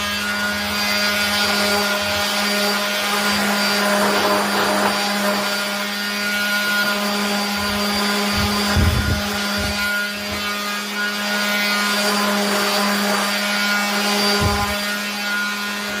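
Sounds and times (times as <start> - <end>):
power sander on wood: 0.0 - 16.0.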